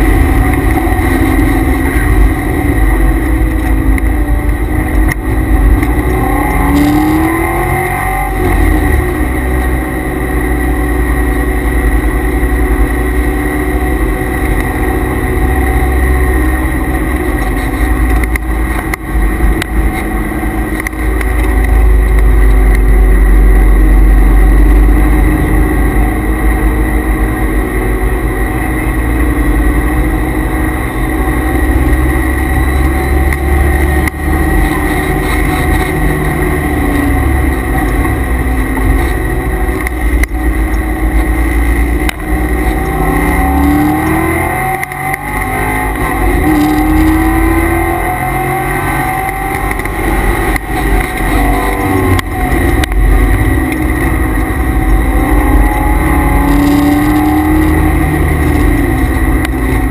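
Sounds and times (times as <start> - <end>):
car engine revving from inside: 0.0 - 59.9
transmission and cooler noise: 0.0 - 59.9.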